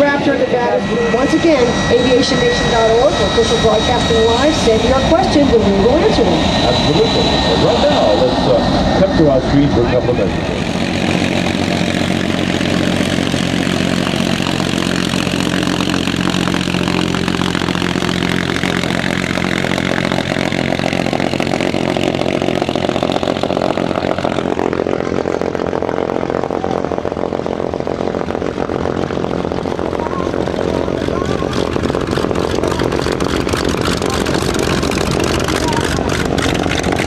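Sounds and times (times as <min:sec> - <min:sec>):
propeller aircraft engine drone: 0:00.0 - 0:37.0.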